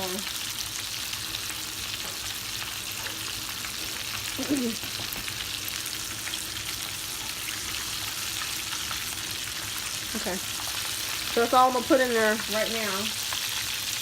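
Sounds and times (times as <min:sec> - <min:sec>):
chicken frying in grease: 0:00.0 - 0:14.0.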